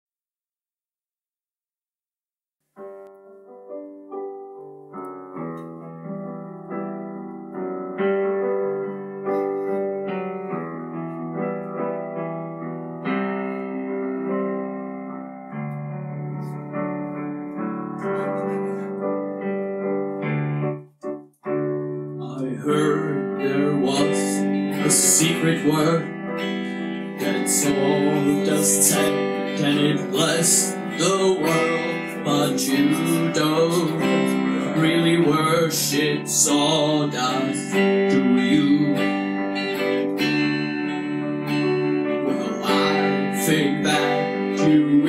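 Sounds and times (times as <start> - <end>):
electric keyboard playing chords: 2.6 - 45.0.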